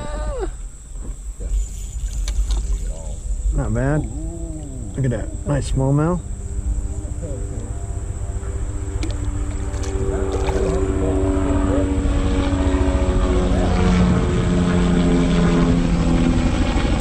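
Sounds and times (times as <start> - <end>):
loud engine drone: 1.3 - 17.0.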